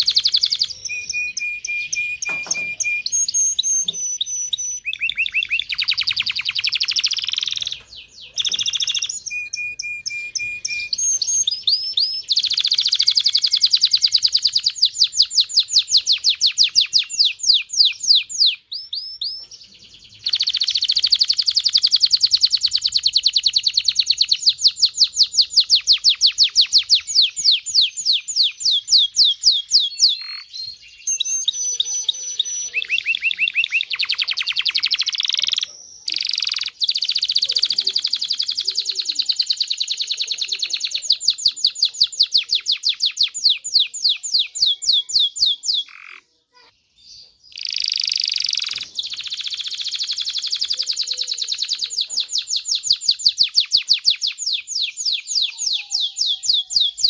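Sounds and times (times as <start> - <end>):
canary singing fast trills: 0.0 - 57.0.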